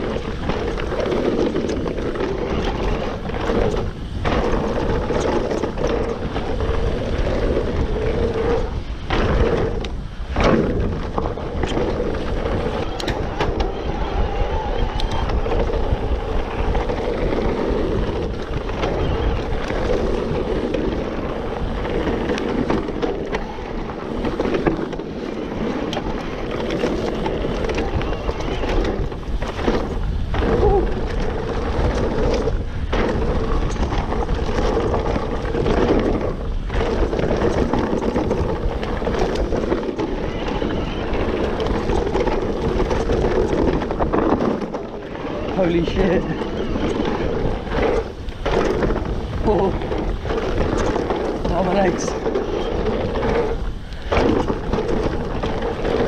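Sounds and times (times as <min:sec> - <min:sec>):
bike tyres rolling on dirt: 0:00.0 - 0:56.0
wind on microphone: 0:00.0 - 0:56.0.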